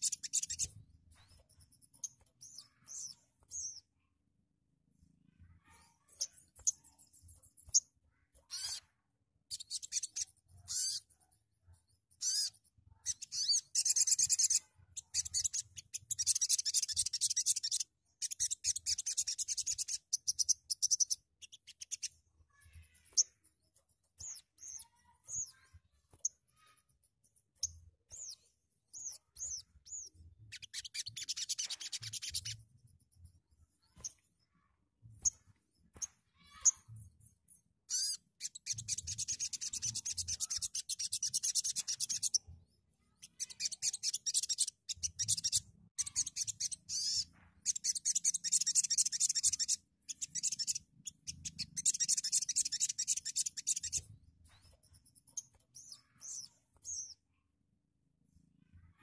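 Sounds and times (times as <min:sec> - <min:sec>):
bird chirping and trilling: 0:00.0 - 0:04.1, 0:05.4 - 0:08.9, 0:09.5 - 0:34.2, 0:35.0 - 0:37.1, 0:37.9 - 0:57.3.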